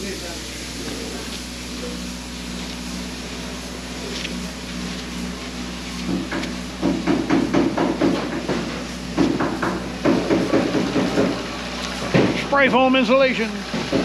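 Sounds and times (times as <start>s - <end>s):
construction equipment humming: 0.0s - 14.0s.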